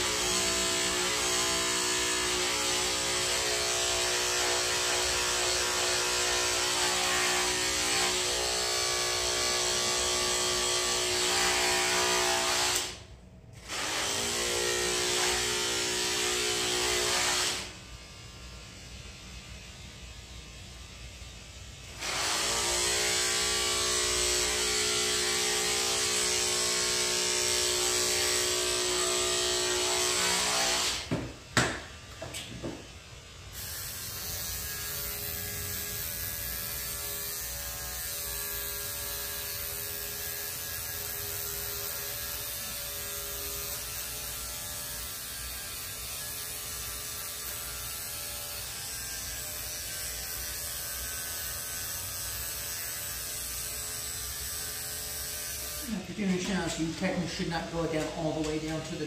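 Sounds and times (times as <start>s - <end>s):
electric hair clippers running: 0.0s - 59.0s.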